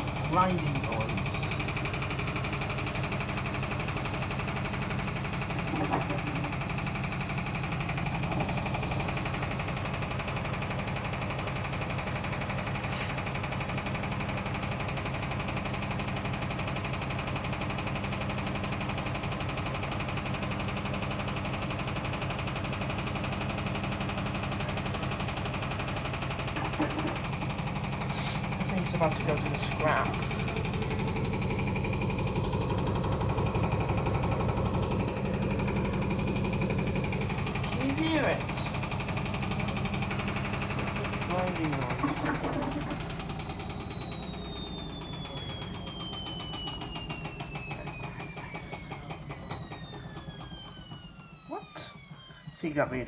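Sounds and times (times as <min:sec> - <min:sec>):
washing machine grinding: 0:00.0 - 0:51.4.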